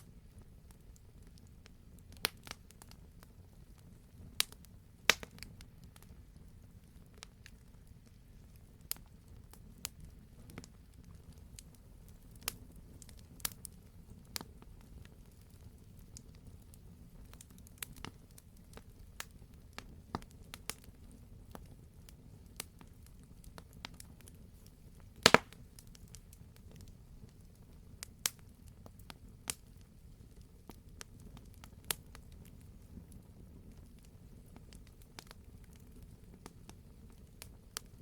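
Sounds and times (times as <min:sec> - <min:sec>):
low steady fire rumble: 0:00.0 - 0:38.0
wood fire popping and snapping: 0:00.0 - 0:38.0.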